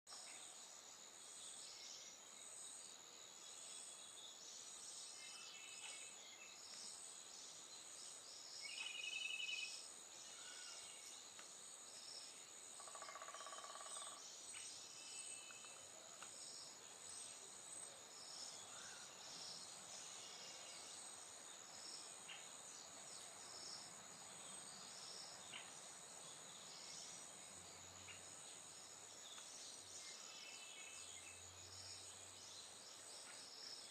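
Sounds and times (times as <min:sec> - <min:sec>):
insect chorus trilling: 0:00.2 - 0:33.9.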